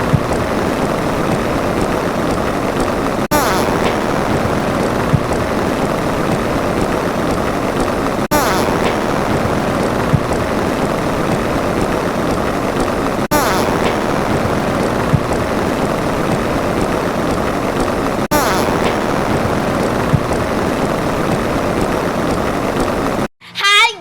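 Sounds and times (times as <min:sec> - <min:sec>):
loud steady rushing noise: 0:00.0 - 0:23.3.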